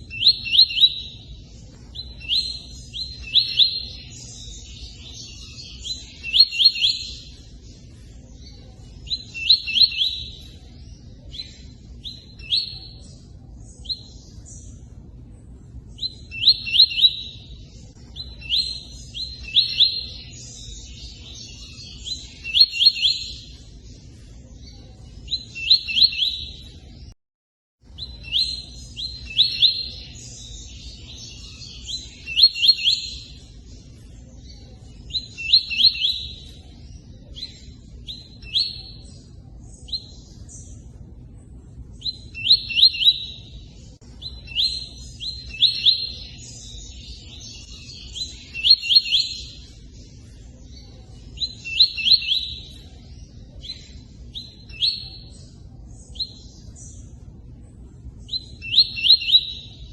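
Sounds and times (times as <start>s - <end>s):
bird singing chirpy trills: 0.0s - 27.2s, 27.8s - 59.9s.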